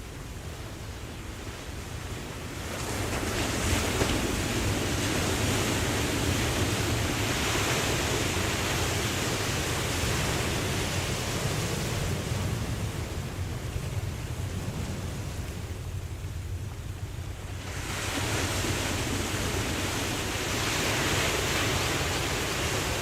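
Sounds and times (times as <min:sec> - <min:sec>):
ocean surf washing in: 0:00.0 - 0:23.0.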